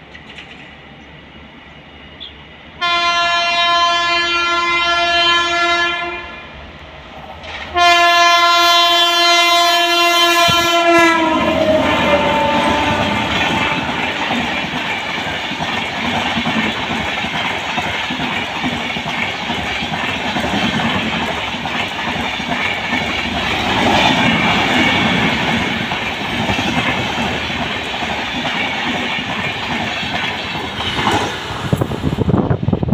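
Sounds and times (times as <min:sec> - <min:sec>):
train wheels rumbling on rails: 0:00.0 - 0:05.6, 0:06.4 - 0:32.9.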